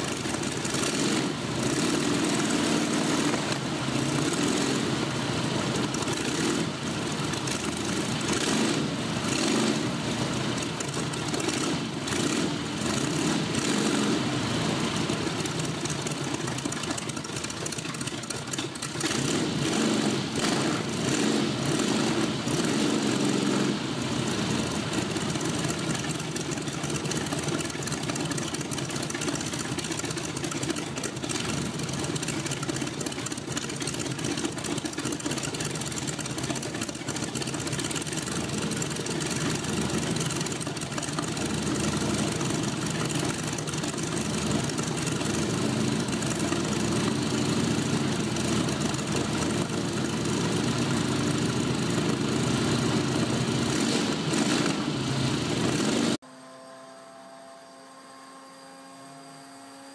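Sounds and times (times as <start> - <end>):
propeller aircraft engine running: 0.0 - 56.6.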